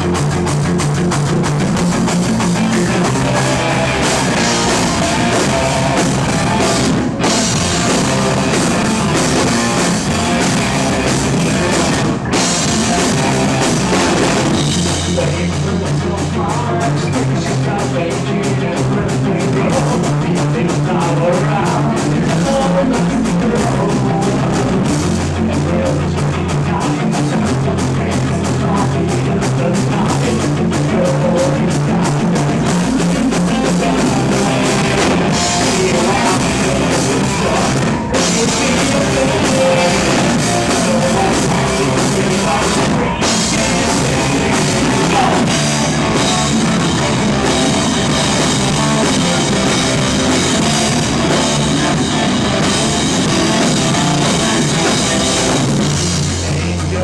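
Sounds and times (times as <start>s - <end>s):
live rock band playing: 0.0s - 57.0s
person singing: 2.3s - 57.0s.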